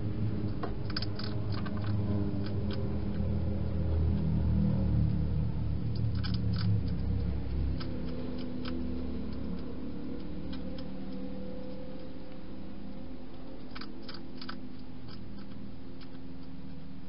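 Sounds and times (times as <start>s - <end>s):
low steady hum: 0.0s - 17.0s
hedgehog crunching dry food: 0.4s - 17.0s.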